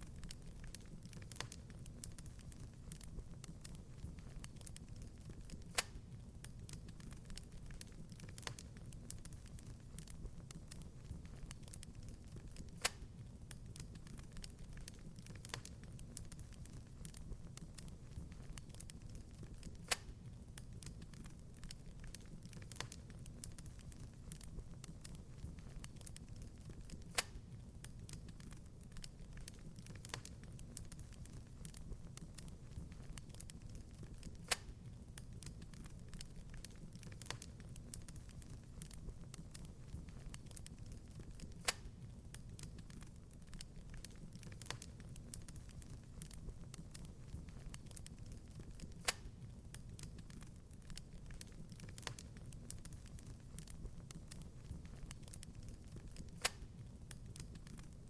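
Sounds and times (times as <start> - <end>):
low fire rumble: 0.0 - 58.0
wood fire crackling: 0.0 - 58.0.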